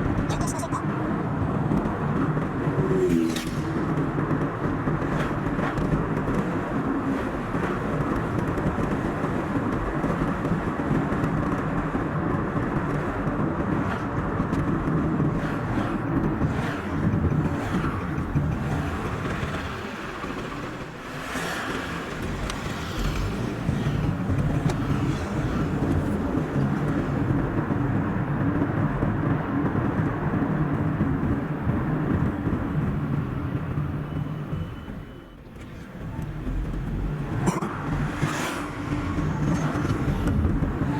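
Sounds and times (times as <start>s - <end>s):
car engine and tyre noise: 0.0s - 40.9s
passing traffic whooshes: 0.0s - 40.9s.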